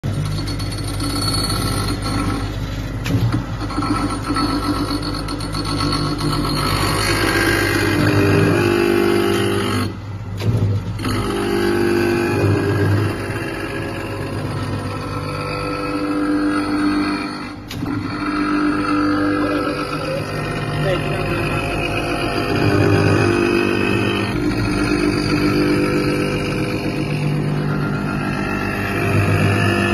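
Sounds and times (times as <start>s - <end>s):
grinding wheel on steel blade: 0.0s - 3.0s, 3.6s - 10.0s, 11.0s - 29.9s
motor hum: 0.0s - 29.9s.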